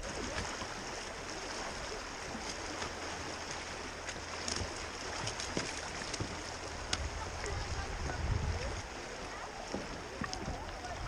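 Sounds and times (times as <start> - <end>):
paddle stroke splashes: 0.0 - 11.0
river water rushing and splashing: 0.0 - 11.0.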